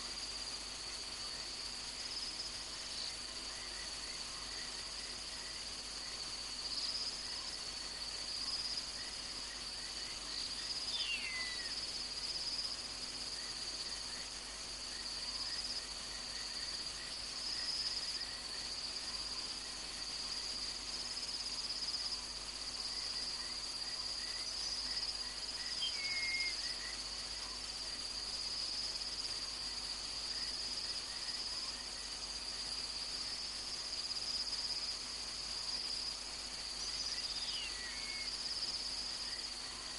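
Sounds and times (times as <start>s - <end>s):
cricket trill: 0.0s - 39.9s
quick insect chirps: 0.0s - 39.9s.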